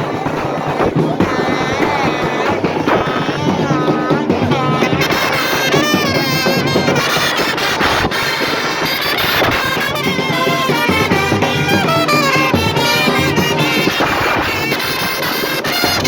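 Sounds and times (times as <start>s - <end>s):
brass instruments melody: 2.9s - 16.0s.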